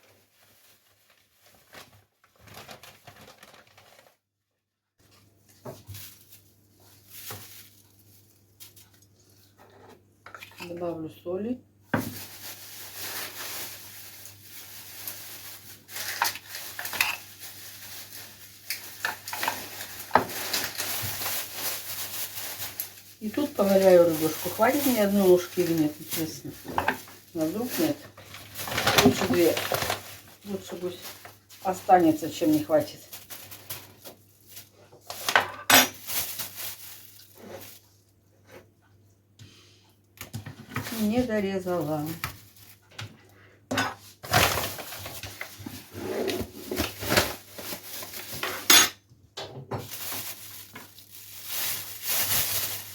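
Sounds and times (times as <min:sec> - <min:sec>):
plastic bag rustling: 0:00.0 - 0:04.3, 0:05.0 - 0:09.9, 0:11.9 - 0:38.6, 0:40.4 - 0:42.9, 0:44.0 - 0:48.8, 0:49.8 - 0:52.9.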